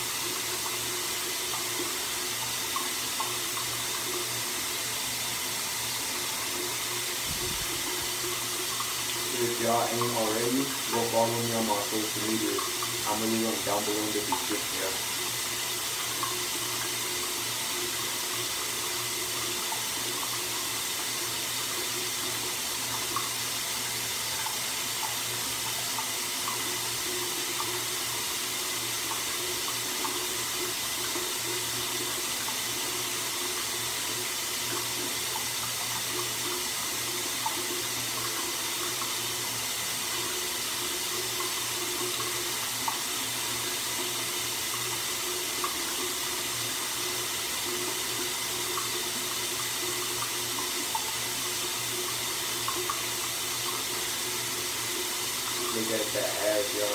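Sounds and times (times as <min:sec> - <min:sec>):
water running: 0:00.0 - 0:56.9.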